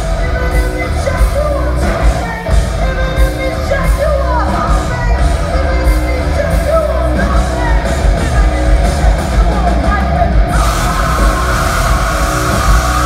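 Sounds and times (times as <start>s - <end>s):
heavy metal band playing: 0.0s - 13.0s
person singing: 0.0s - 13.0s.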